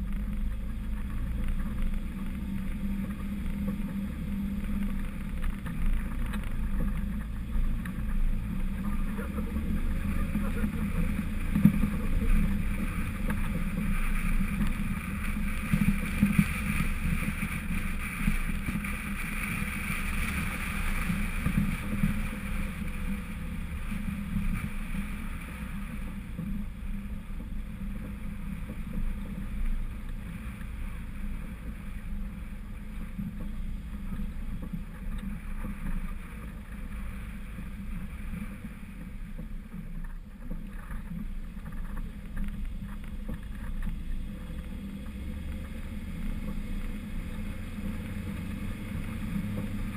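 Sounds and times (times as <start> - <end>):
car engine rumbling: 0.0 - 49.9
wind noise on microphone: 0.0 - 49.9.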